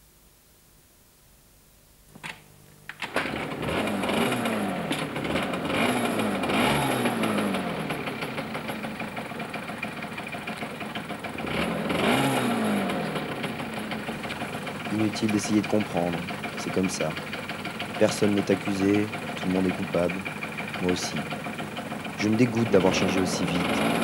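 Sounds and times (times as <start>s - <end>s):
car engine starting and revving: 3.0s - 24.0s.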